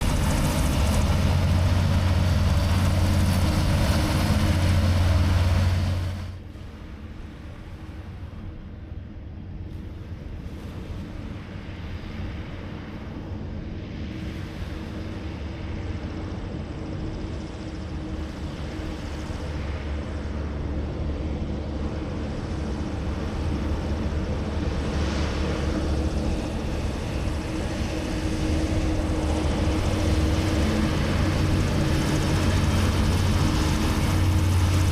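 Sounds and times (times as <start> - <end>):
distant hovercraft approaching: 0.0 - 34.9
hovercraft engine and fan noise: 0.0 - 34.9.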